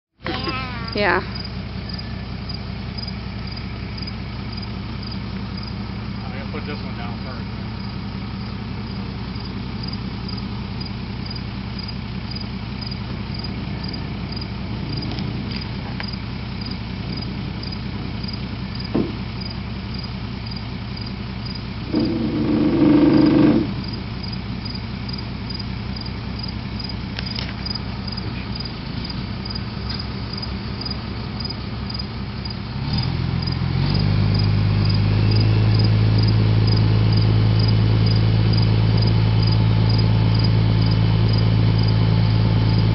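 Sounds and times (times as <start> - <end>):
truck engine idling: 0.2 - 42.9
crickets chirping: 0.3 - 42.9.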